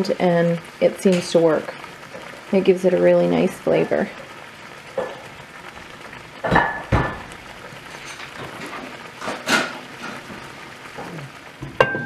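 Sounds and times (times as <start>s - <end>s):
liquid sizzling in a hot skillet: 0.0s - 12.0s.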